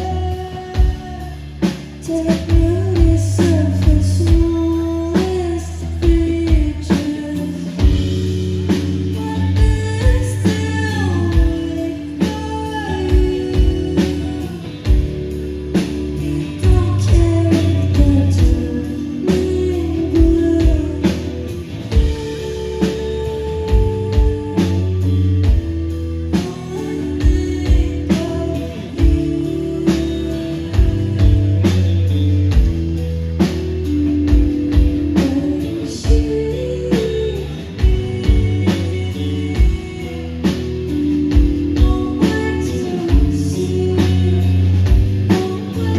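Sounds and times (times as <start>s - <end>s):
person singing: 0.0s - 32.7s, 33.8s - 45.9s
bass guitar: 0.0s - 45.9s
drum kit: 0.0s - 45.9s
electric guitars: 0.0s - 45.9s.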